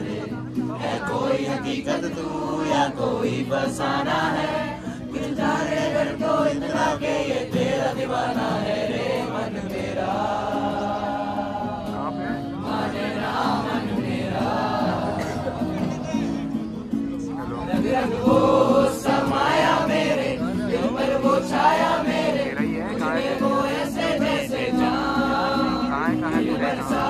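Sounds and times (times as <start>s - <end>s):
group singing: 0.0s - 16.4s, 17.6s - 27.0s
strummed acoustic guitar: 0.0s - 27.0s.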